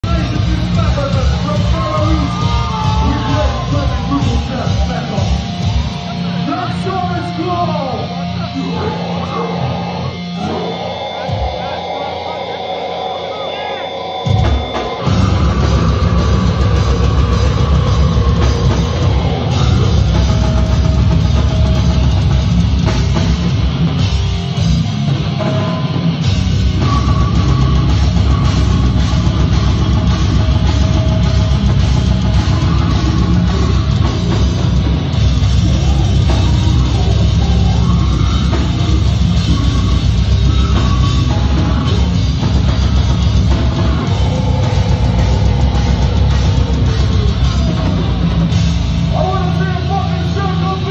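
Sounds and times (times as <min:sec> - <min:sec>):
distorted guitar and bass: 0:00.0 - 0:50.9
pounding drum kit: 0:00.0 - 0:50.9.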